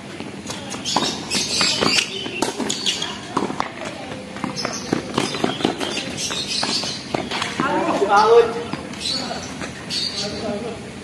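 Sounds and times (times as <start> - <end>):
players' footsteps: 0.0 - 9.9.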